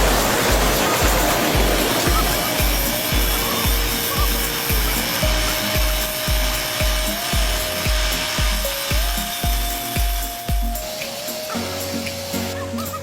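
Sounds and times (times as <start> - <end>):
background music with deep beat: 0.0 - 13.0.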